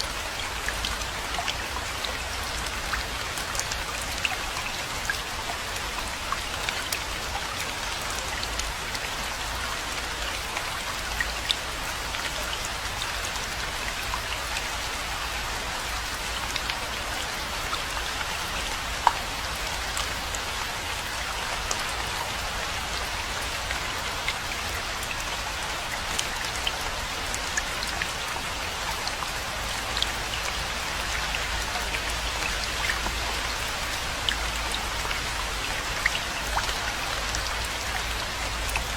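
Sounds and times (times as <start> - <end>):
raindrops ticking: 0.0 - 38.9
steady rainfall: 0.0 - 38.9.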